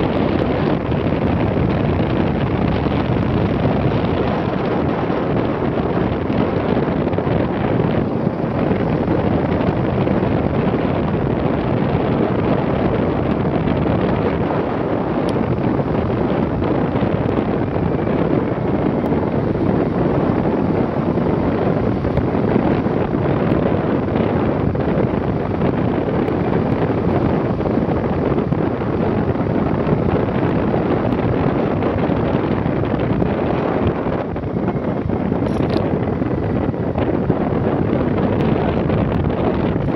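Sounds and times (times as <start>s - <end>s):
moving vehicle running noise: 0.0s - 39.9s
wind rush on microphone: 0.0s - 39.9s.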